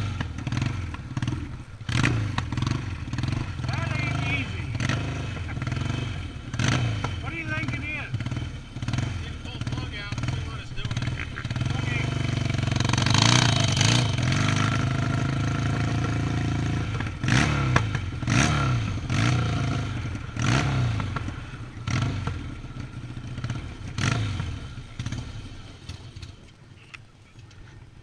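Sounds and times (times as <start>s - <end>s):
motorcycle engine revving: 0.0s - 27.5s.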